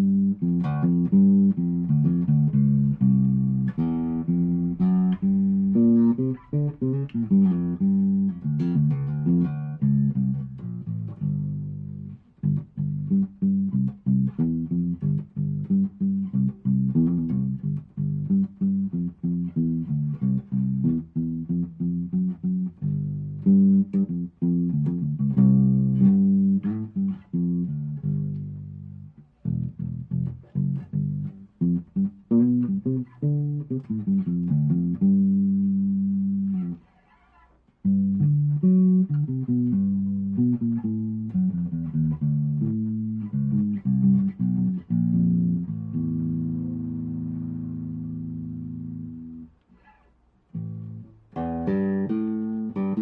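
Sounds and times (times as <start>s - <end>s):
electric bass plucked notes: 0.0s - 36.8s, 37.6s - 49.6s, 50.5s - 53.0s.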